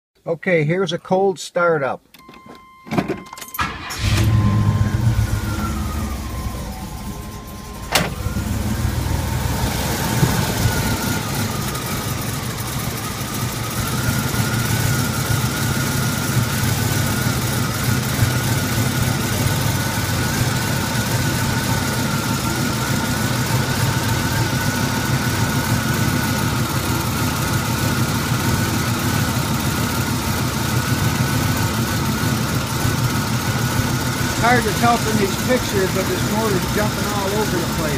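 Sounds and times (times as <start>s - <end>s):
car engine rough idle: 3.6s - 37.9s.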